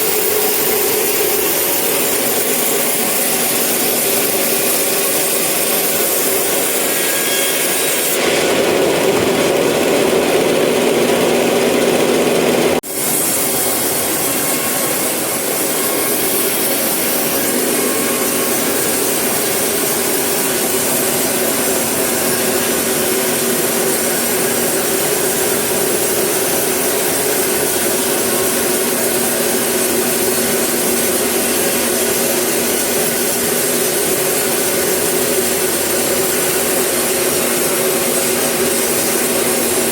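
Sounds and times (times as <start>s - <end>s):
saw cutting wood: 0.0s - 39.9s.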